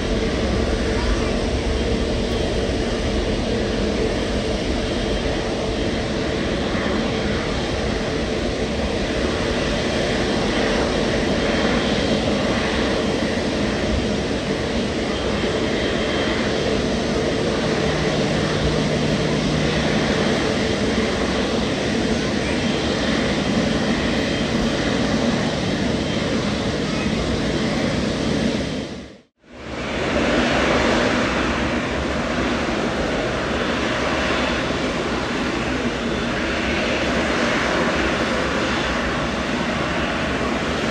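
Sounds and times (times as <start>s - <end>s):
jet engines rushing: 0.0s - 40.9s.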